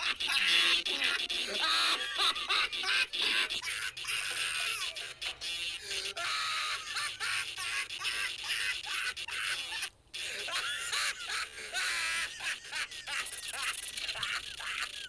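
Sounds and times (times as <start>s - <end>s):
high-pitched laughter: 0.0s - 15.0s.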